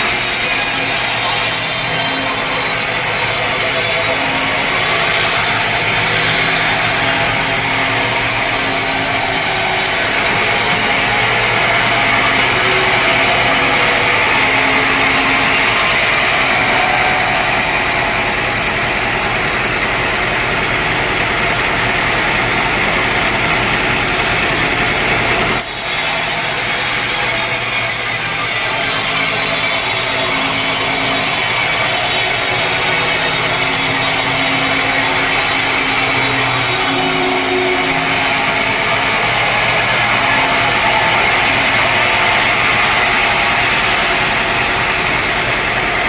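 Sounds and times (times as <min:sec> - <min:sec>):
machine motor hum: 0:00.0 - 0:46.0
sawmill saw cutting wood: 0:00.0 - 0:46.0.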